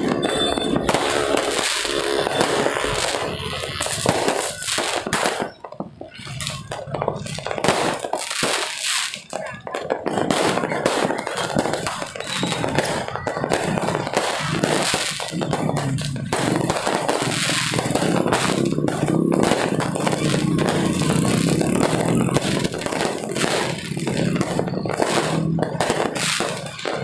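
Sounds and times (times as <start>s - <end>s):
fireworks and firecrackers bangs: 0.0s - 27.0s
people's voices: 0.0s - 27.0s.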